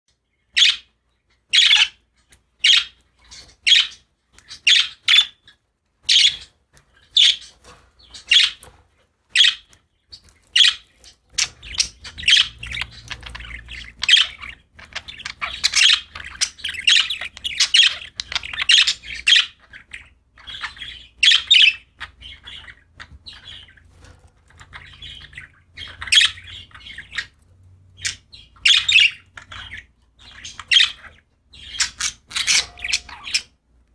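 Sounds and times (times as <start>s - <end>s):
budgerigars chirping and squawking: 0.2s - 33.9s.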